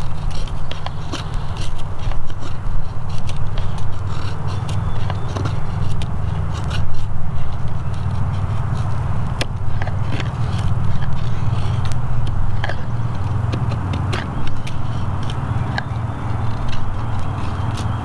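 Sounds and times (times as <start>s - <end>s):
knife shaving wooden stick: 0.0s - 18.0s
steady low rumble: 0.0s - 18.0s.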